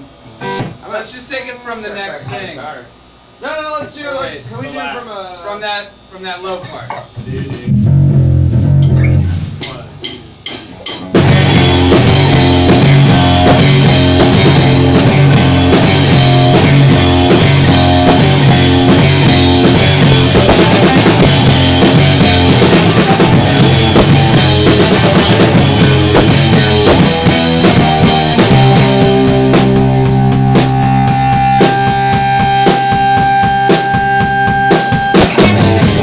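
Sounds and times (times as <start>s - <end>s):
rock band playing loudly: 0.0s - 0.8s, 7.0s - 36.0s.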